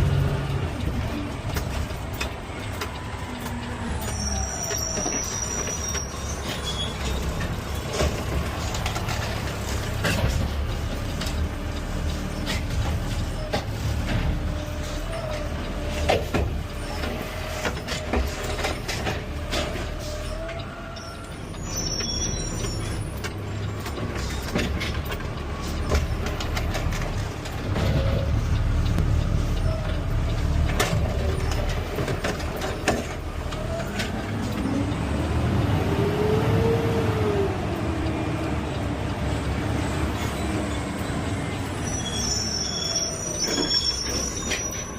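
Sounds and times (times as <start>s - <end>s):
garbage truck running: 0.0s - 44.9s.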